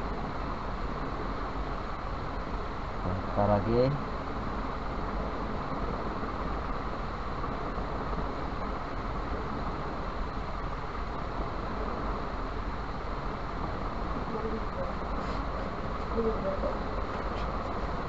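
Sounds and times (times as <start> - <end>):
even hiss with low rumble: 0.0 - 18.0.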